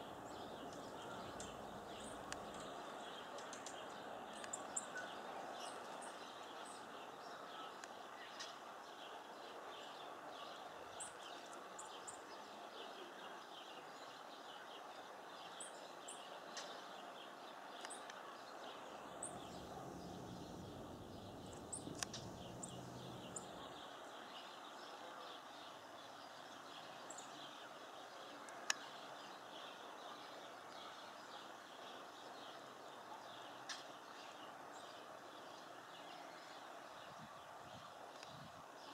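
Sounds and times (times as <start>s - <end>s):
faint low hum: 0.0s - 14.1s, 15.5s - 33.5s
background hiss: 0.0s - 38.9s
small songbirds chirping: 0.0s - 38.9s.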